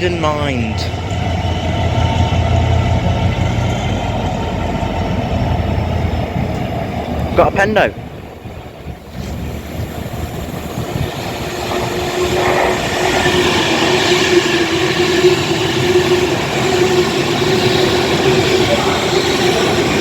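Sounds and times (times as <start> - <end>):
electric train approaching: 0.0 - 20.0.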